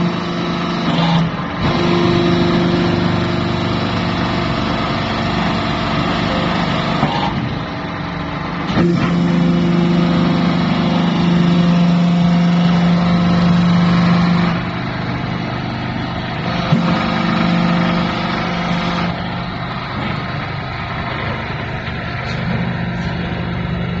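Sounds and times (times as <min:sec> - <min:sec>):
hydraulic baler hum: 0:00.0 - 0:24.0.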